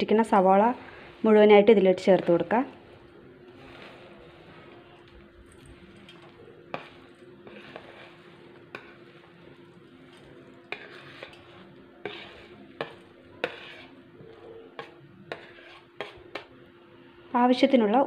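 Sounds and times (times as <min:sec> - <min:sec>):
fried onions rustling: 0:00.0 - 0:16.3
metal spoon scraping plate: 0:02.0 - 0:16.5.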